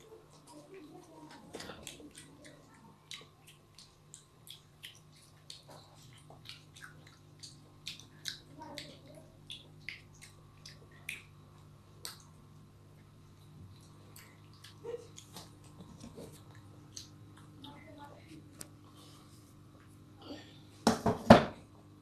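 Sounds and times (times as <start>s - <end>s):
child chewing with mouth clicks: 0.0s - 20.7s
low steady hum: 0.0s - 22.0s.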